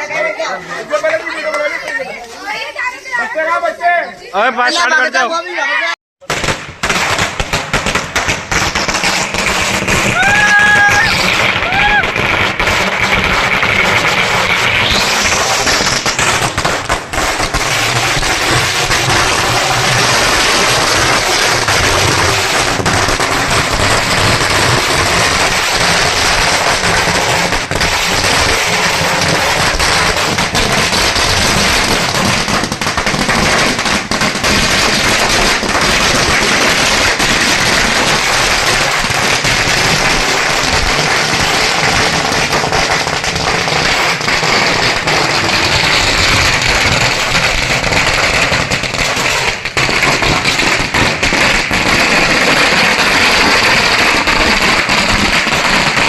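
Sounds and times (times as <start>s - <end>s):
firecrackers rattling bangs: 6.2s - 56.0s.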